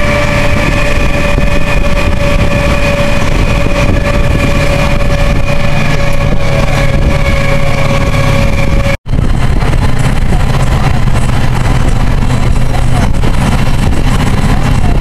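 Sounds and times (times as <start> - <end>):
bus engine and road rumble: 0.0 - 15.0
constant high whine: 0.0 - 15.0.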